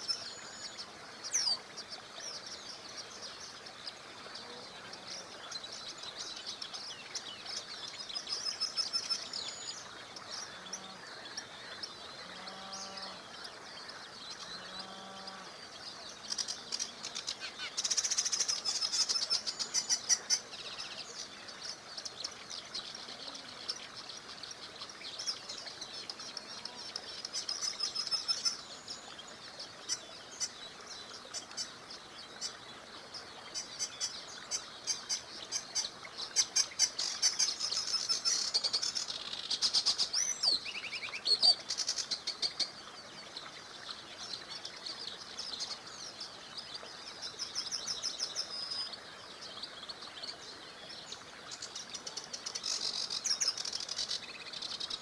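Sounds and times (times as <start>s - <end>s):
small river running: 0.0s - 55.0s
songbirds chirping and trilling: 0.0s - 55.0s.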